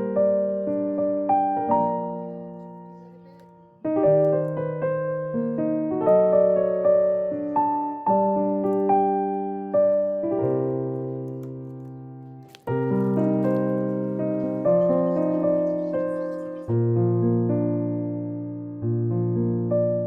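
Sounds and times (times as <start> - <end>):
gentle piano chords: 0.0 - 20.0.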